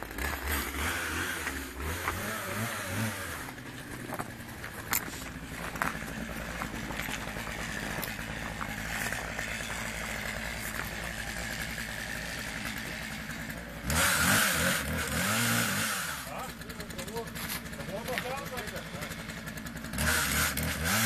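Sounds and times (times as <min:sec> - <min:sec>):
engine idling and revving: 0:00.0 - 0:21.0.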